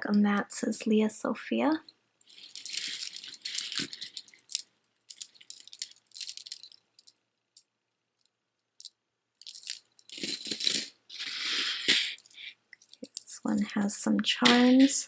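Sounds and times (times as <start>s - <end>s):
jewelry clinking and rattling: 1.8s - 15.0s.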